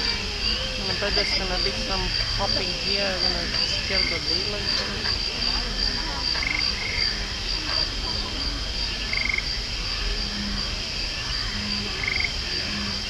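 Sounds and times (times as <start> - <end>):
frogs croaking low: 0.0 - 13.0
steady background noise: 0.0 - 13.0.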